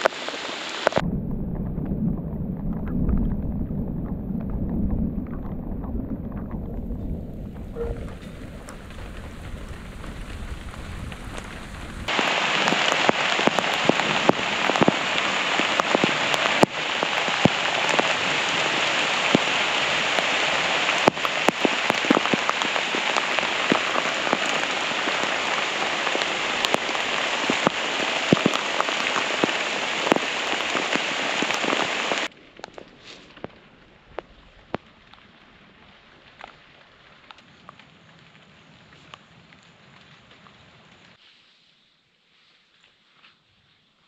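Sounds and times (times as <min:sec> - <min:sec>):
heavy rain downpour: 0:00.0 - 0:41.2
raindrops ticking on camera: 0:00.0 - 0:41.2.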